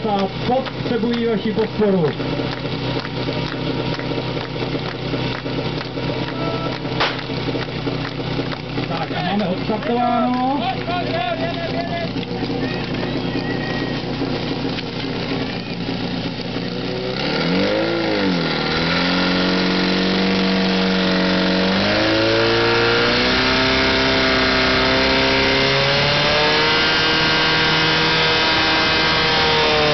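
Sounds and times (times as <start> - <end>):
pump engine starting and revving: 0.0 - 29.9.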